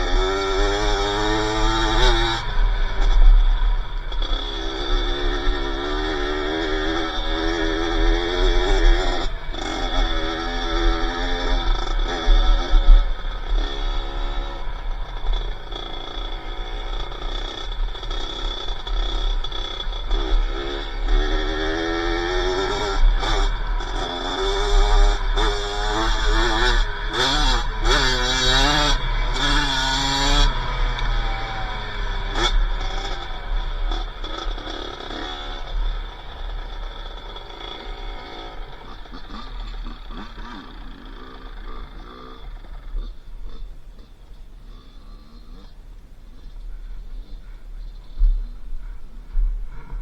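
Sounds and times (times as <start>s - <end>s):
two-stroke engine revving: 0.0s - 50.0s.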